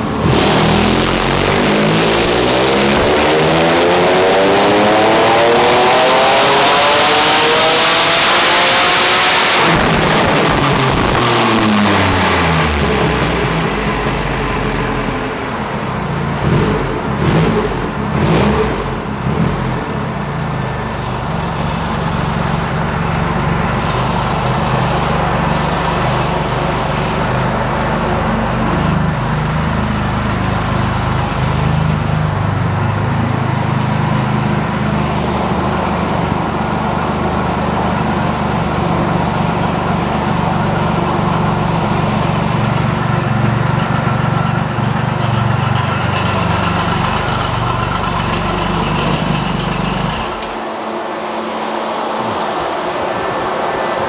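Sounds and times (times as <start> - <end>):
motorcycle engine revving: 0.0 - 54.0
engine idling: 9.6 - 54.0.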